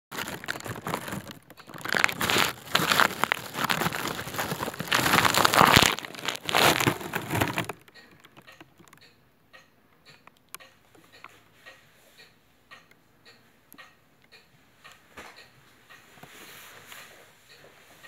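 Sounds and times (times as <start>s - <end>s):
faint regular ticking: 0.2s - 16.4s.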